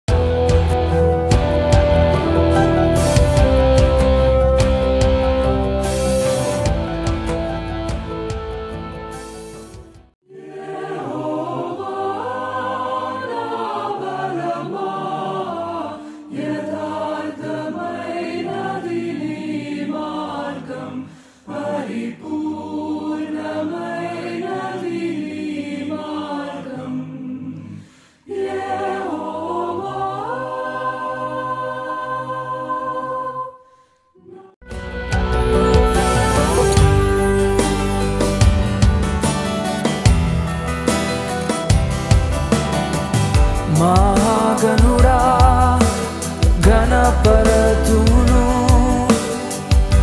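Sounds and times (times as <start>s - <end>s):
choir singing: 0.1s - 7.6s, 10.2s - 40.1s, 40.8s - 50.0s.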